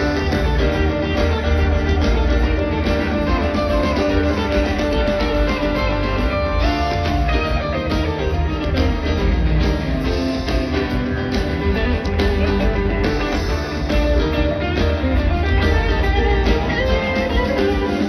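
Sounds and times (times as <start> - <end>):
heavy bass: 0.0 - 17.2
live rock band playing: 0.0 - 18.0.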